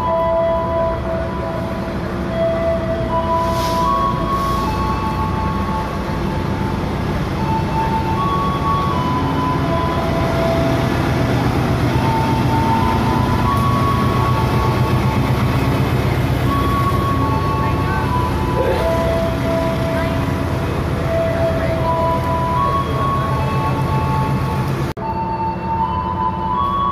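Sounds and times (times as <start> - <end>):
station bell melody over loudspeakers: 0.0 - 6.8, 7.4 - 26.9
passenger train rumbling: 0.0 - 26.9.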